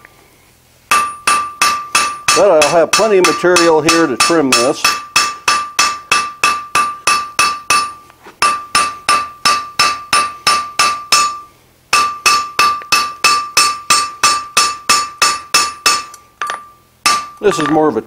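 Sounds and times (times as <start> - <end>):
hammer striking steel on anvil: 0.9 - 18.0.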